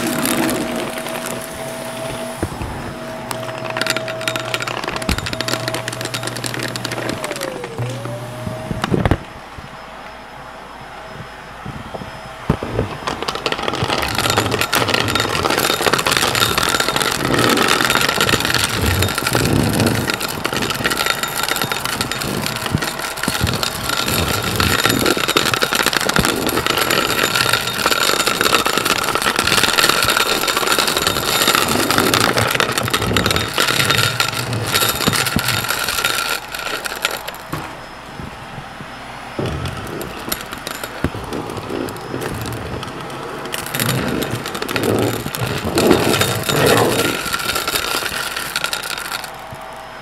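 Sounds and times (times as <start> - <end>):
vacuum cleaner whining: 0.0 - 50.0.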